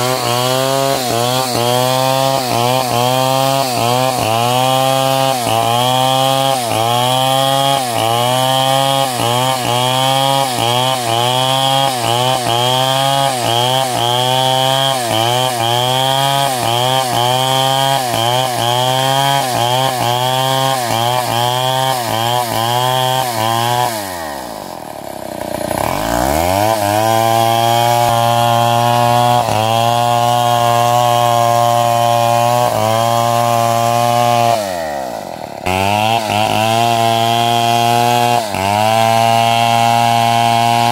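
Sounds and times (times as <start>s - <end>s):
engine-driven saw cutting timber: 0.0s - 40.9s.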